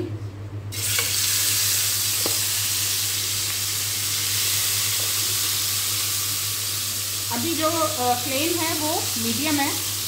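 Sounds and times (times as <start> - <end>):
meat sizzling in oil: 0.7 - 10.0.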